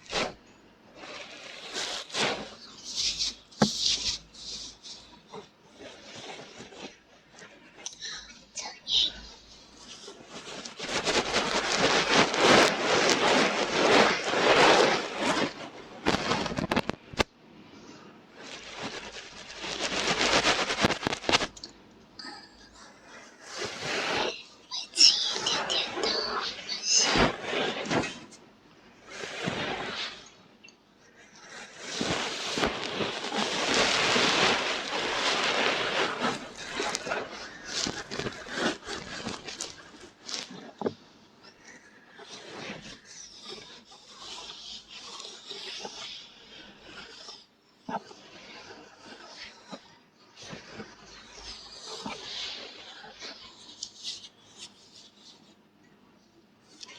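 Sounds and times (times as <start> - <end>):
scratching on microphone: 0.0 - 0.4, 1.0 - 17.3, 18.3 - 30.5, 31.2 - 55.6.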